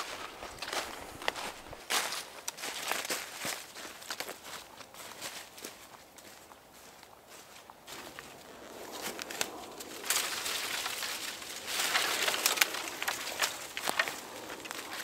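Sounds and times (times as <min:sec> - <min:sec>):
twigs cracking: 0:00.0 - 0:06.4, 0:07.1 - 0:15.0
brushwood rustling and crackling: 0:00.0 - 0:15.0.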